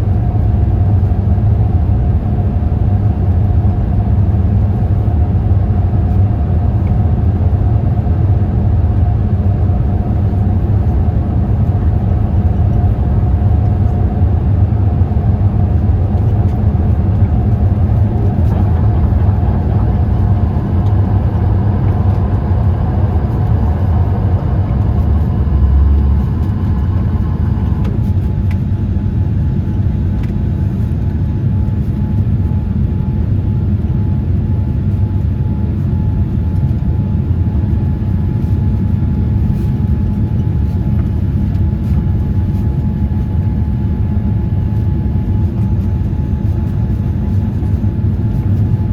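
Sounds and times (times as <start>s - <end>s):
faint steady whine: 0.0s - 48.9s
low rumble of engines and airflow: 0.0s - 48.9s.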